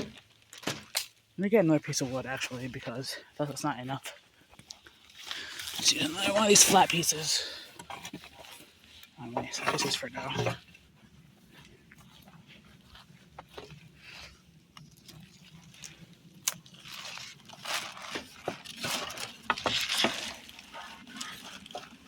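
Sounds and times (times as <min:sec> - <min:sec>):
plastic rustling and crinkling: 0:00.0 - 0:22.0.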